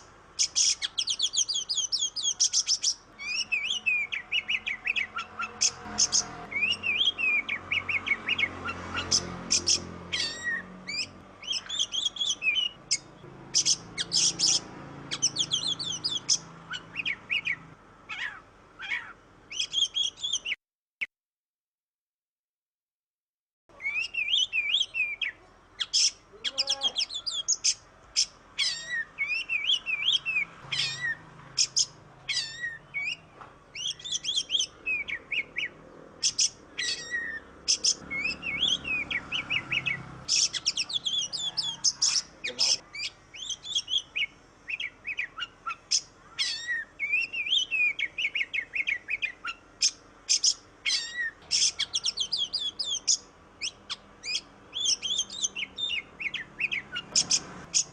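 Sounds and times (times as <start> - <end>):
bird singing whistles and chatter: 0.4 - 20.6, 23.7 - 57.9.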